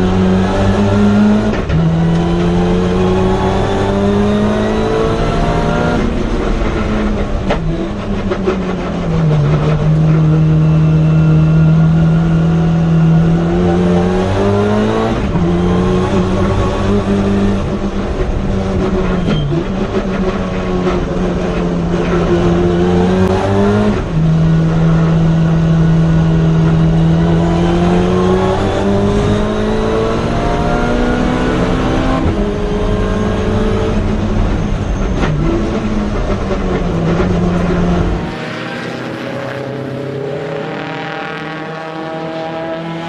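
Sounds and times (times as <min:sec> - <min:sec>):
turbocharged car engine revving: 0:00.0 - 0:43.0.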